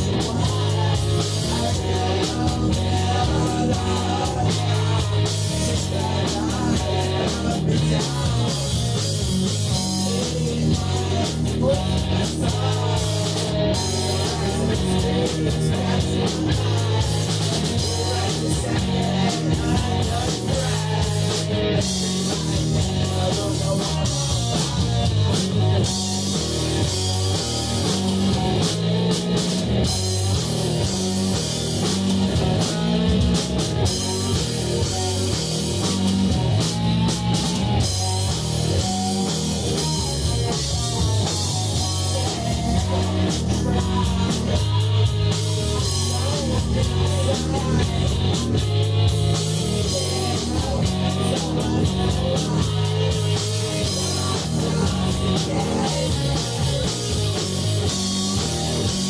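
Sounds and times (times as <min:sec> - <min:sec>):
bass guitar: 0:00.0 - 0:59.0
drum kit with crashing cymbals: 0:00.0 - 0:59.0
electric guitars: 0:00.0 - 0:59.0
person singing: 0:00.0 - 0:59.0.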